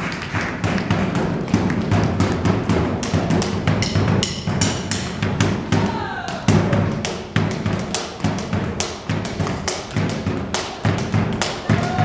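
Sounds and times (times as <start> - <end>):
boots stamping on wooden stage: 0.0 - 12.0
bass drum beaten with sticks: 0.5 - 12.0.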